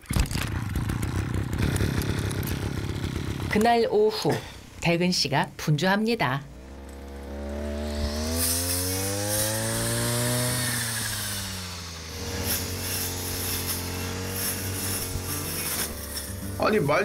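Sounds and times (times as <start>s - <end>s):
brush cutter engine revving: 0.1s - 3.8s, 6.5s - 17.0s.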